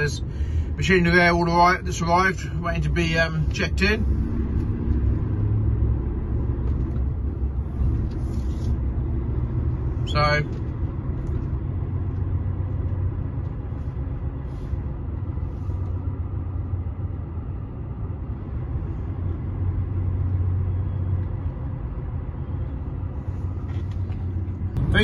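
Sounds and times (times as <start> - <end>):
lorry diesel engine droning: 0.0 - 25.0.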